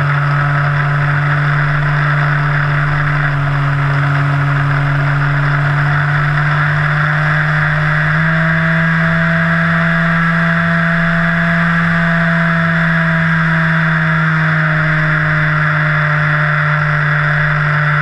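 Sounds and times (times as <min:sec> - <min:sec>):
model plane motor buzzing: 0:00.0 - 0:18.0.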